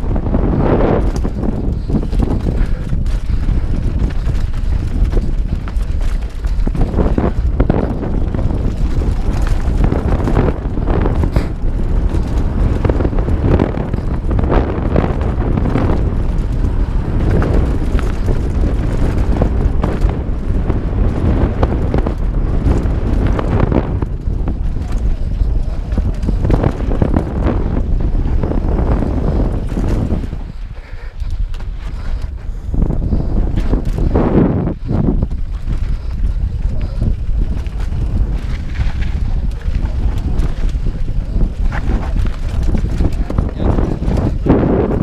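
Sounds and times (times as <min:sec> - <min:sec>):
mountain bike rattling: 0:00.0 - 0:45.0
wind buffeting microphone: 0:00.0 - 0:45.0.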